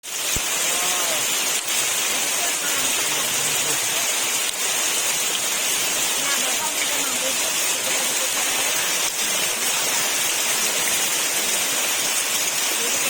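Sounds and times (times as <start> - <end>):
heavy rain falling on trees: 0.0 - 13.0.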